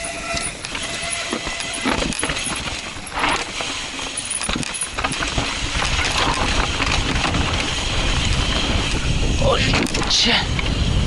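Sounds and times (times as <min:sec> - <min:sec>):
bike chain and frame rattling: 0:00.0 - 0:11.0
wind rumbling on microphone: 0:00.0 - 0:11.0
bike tyres rolling over rock: 0:00.6 - 0:11.0.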